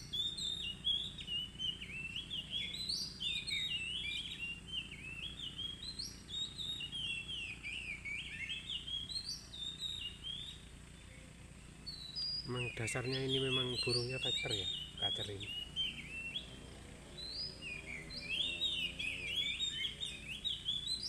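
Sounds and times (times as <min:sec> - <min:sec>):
bird singing whistled phrases: 0:00.0 - 0:21.0.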